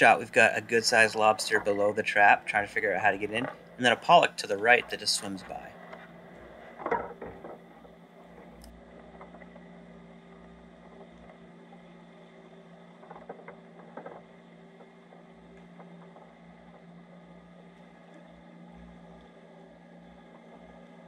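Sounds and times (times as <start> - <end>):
boat engine drone underwater: 0.0 - 21.0
faint clicks: 2.4 - 21.0.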